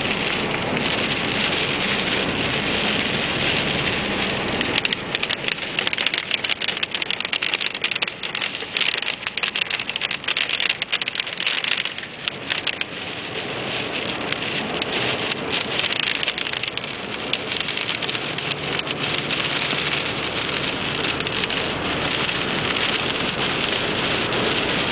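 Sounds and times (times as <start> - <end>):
rain hitting car windshield: 0.0 - 24.9
road and wind noise: 0.0 - 24.9.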